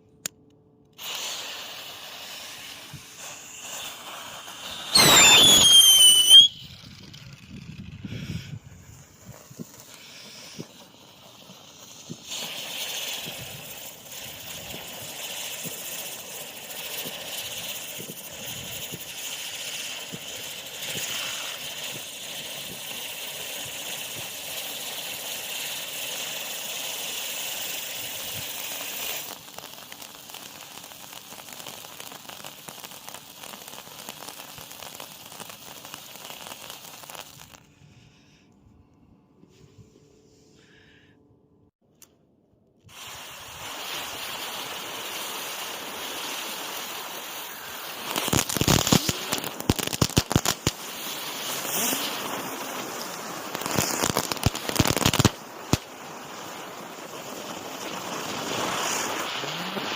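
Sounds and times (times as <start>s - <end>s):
firework hissing and crackling: 0.8s - 38.5s, 42.8s - 59.9s.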